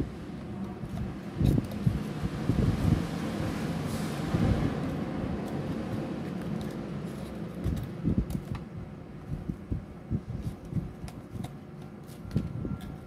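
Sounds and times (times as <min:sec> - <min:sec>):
paper puppets bumping and rustling: 0:00.4 - 0:03.0, 0:04.4 - 0:13.0.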